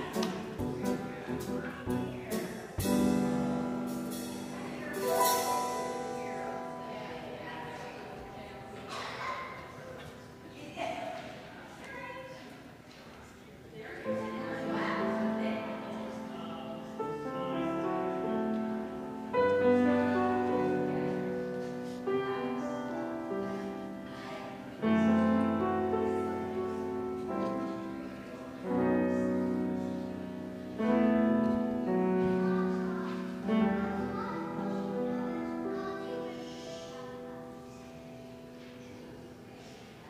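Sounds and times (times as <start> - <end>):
piano playing slow chords: 0.0 - 8.9, 14.1 - 39.9.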